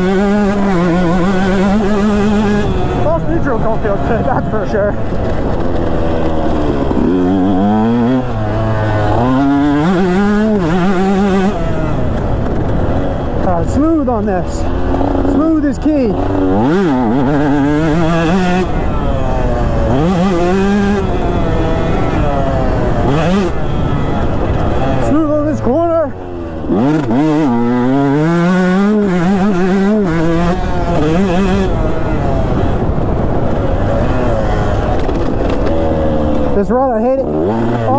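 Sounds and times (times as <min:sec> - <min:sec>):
two-stroke engine revving: 0:00.0 - 0:37.9.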